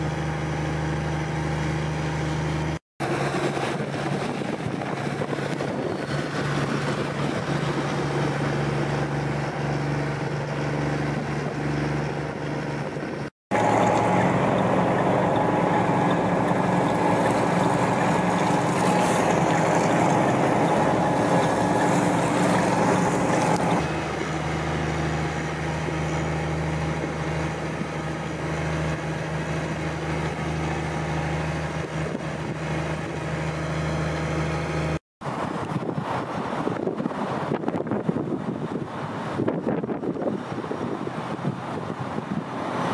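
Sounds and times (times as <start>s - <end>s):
diesel truck engines running: 0.0s - 42.9s
highway traffic noise: 0.0s - 42.9s.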